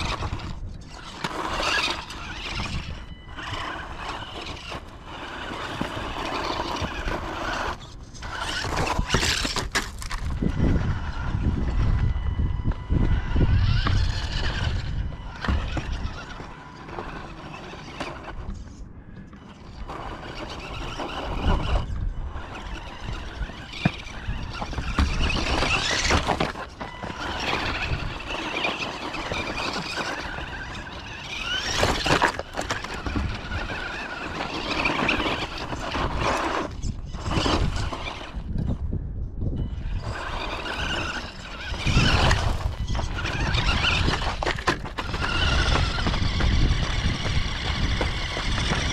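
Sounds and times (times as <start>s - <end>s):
toy car motor whining: 0.0s - 48.9s.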